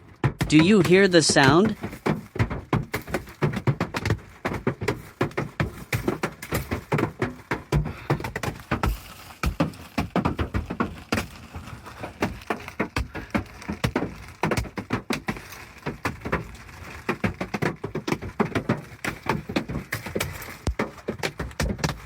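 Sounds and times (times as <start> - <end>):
hailstones pelting hard surfaces: 0.0 - 22.0.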